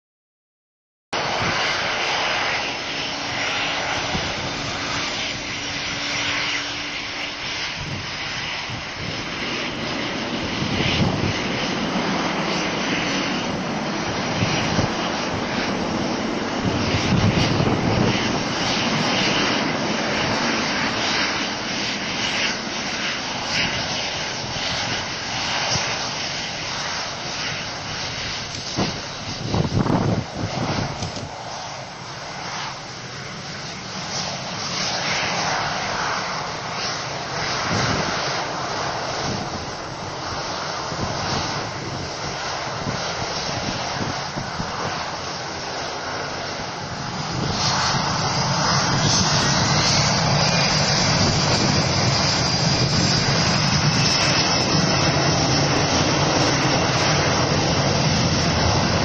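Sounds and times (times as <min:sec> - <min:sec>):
jet engines whining and rumbling: 0:01.1 - 0:59.0.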